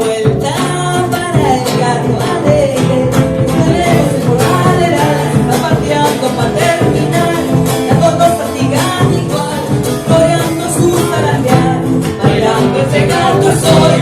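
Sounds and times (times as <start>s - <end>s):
guitar accompaniment: 0.0s - 14.0s
person singing folk song: 0.0s - 14.0s.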